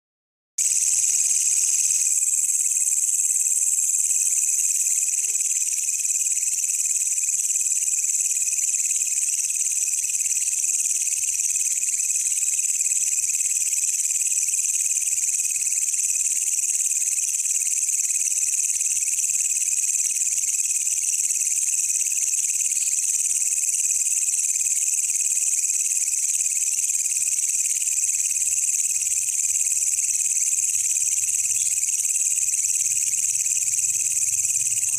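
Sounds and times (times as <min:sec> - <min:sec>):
katydid buzzing trill: 0:00.6 - 0:34.9.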